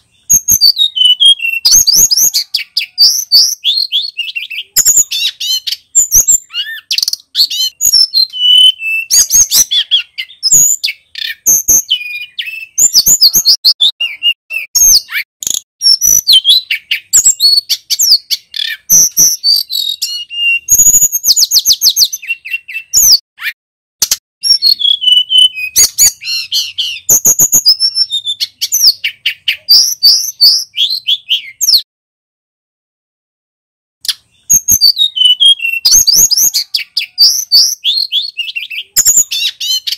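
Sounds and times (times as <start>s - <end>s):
bird singing chirps and trills: 0.0s - 23.6s, 24.4s - 31.9s, 34.0s - 39.9s.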